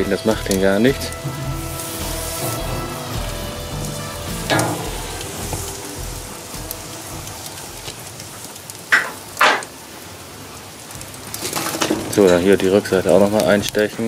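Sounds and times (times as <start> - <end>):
sausages sizzling on grill: 0.0 - 14.0.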